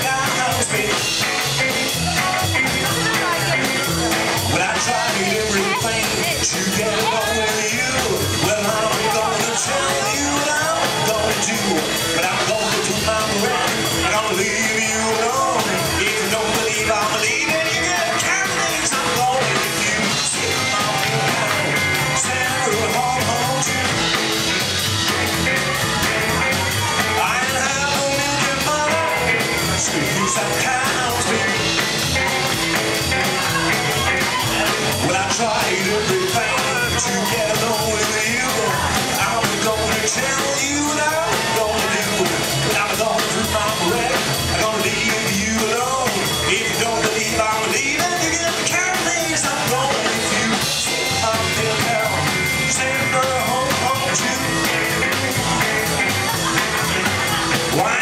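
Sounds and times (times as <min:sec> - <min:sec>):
rockabilly band playing live: 0:00.0 - 0:58.0.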